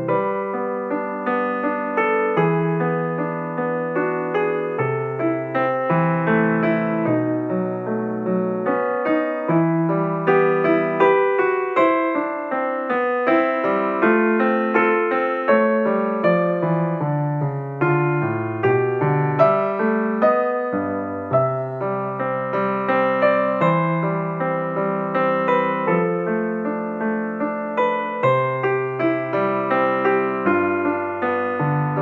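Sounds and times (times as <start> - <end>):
gentle piano piece: 0.0 - 32.0.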